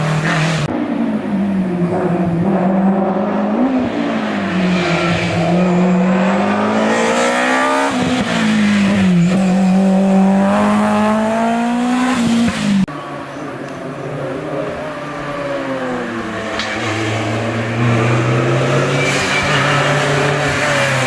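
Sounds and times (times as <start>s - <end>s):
car engine at high revs: 0.0s - 21.0s
gear changes: 0.3s - 21.0s.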